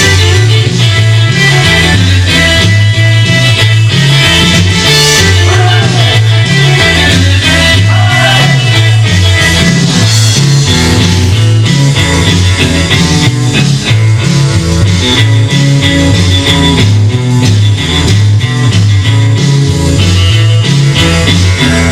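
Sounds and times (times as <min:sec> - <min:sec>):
rockabilly electric guitar: 0:00.0 - 0:21.9
walking bass line: 0:00.0 - 0:21.9.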